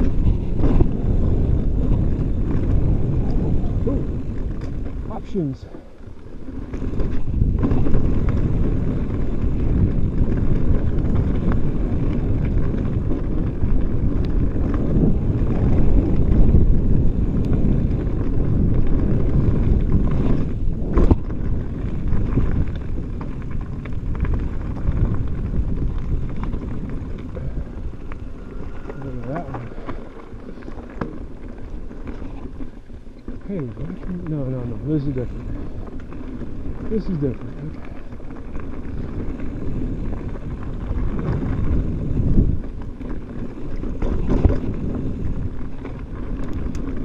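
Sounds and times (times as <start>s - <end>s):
bike rattling: 0.0s - 47.0s
bike tyres rumbling over dirt: 0.0s - 47.0s
wind buffeting microphone: 0.0s - 47.0s.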